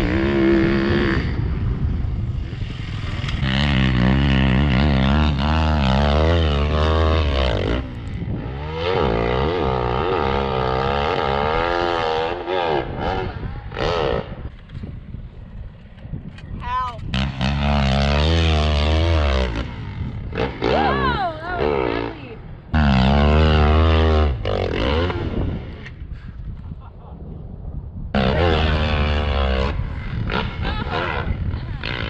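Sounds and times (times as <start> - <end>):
dirt bike engines revving: 0.0 - 16.0, 16.6 - 27.1, 28.1 - 32.0.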